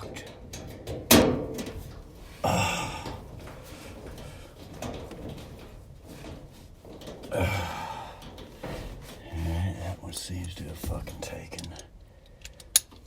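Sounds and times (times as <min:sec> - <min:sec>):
sheet metal scraping clatter: 0:00.0 - 0:11.8
faint handling noise: 0:00.0 - 0:13.0.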